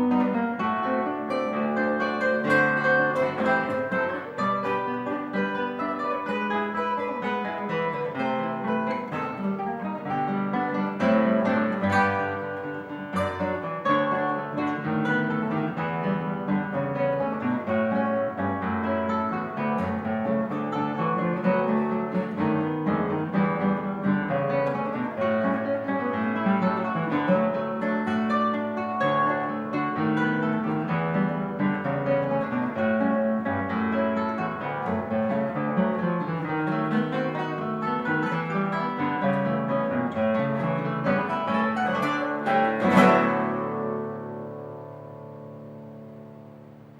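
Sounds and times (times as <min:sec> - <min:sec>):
acoustic guitar playing: 0:00.0 - 0:46.9.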